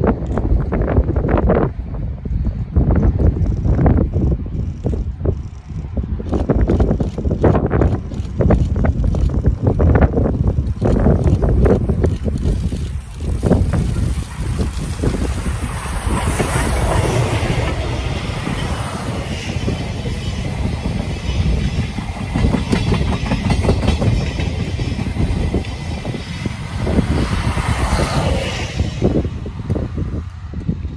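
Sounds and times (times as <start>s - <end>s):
steam locomotive passing: 0.3s - 30.9s
wheels clicking over rail joints: 3.0s - 28.5s.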